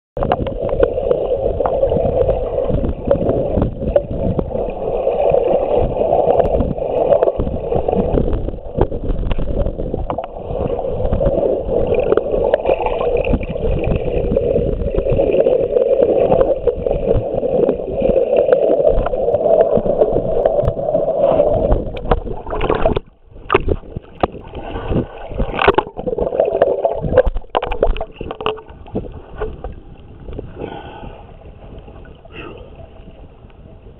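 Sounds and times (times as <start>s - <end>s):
underwater knocks: 0.2s - 20.9s, 21.5s - 30.4s
water splashes: 0.2s - 30.6s
underwater rushing and bubbling: 0.2s - 33.9s.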